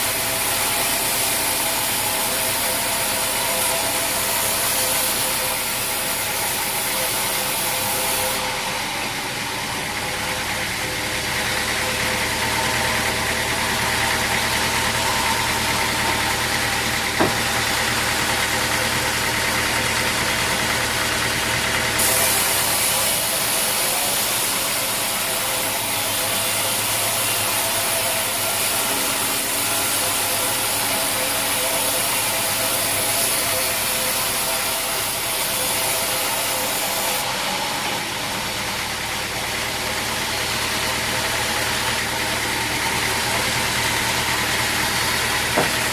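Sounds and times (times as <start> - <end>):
sawmill machinery droning: 0.0 - 45.9.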